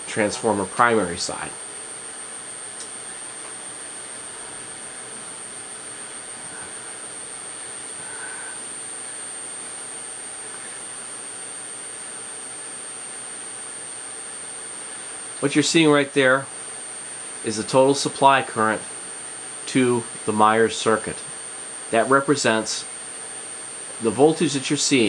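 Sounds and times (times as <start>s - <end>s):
high-pitched electrical whine: 0.0s - 25.0s.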